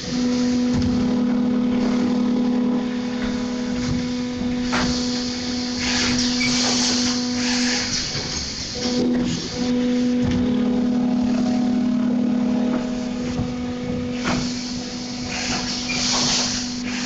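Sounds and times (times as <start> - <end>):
machine hissing: 0.0 - 17.0
machine humming: 0.0 - 17.0.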